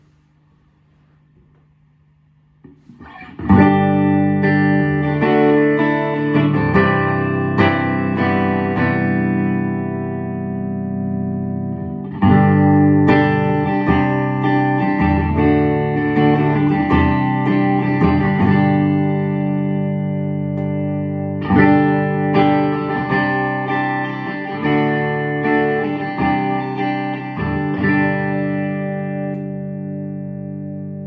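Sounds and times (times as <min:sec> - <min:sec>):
electric guitar chords and notes: 0:02.6 - 0:31.0.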